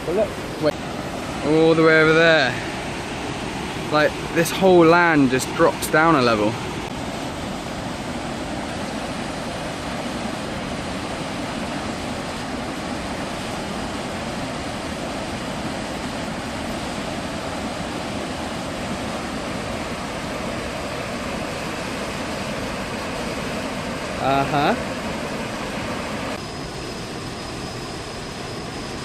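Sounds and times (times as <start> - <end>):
rushing water: 0.0 - 26.4.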